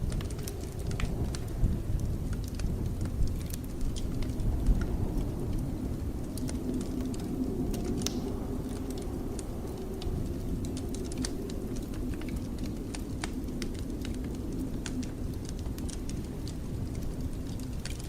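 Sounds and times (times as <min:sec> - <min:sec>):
blizzard wind rumble: 0:00.0 - 0:18.0
wood fire crackling: 0:00.0 - 0:18.0.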